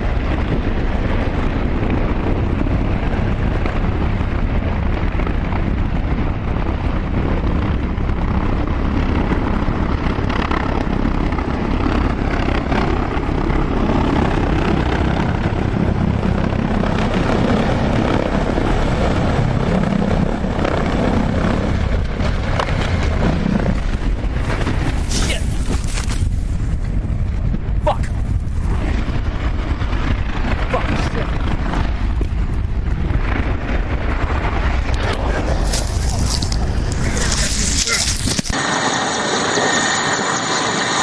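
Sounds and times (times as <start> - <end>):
helicopter rotor and engine: 0.0 - 41.0.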